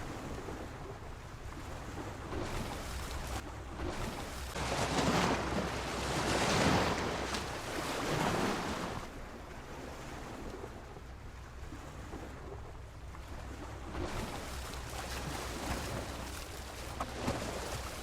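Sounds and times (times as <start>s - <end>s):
sea waves washing against pier: 0.0s - 18.0s.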